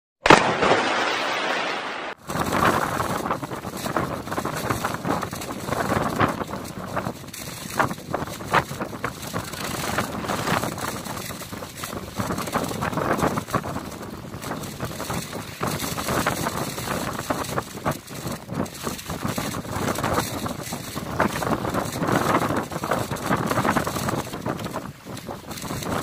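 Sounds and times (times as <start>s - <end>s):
wind buffeting microphone: 2.2s - 26.0s.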